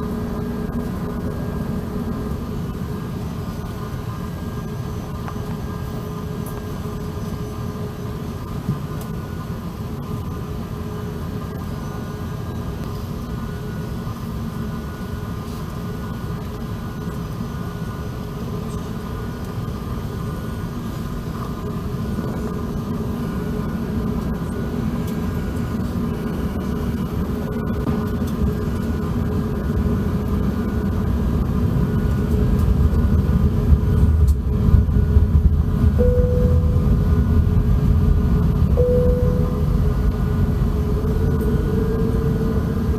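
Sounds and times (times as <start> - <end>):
airplane cabin rumble: 0.0 - 42.9
faint engine hum: 0.0 - 42.9.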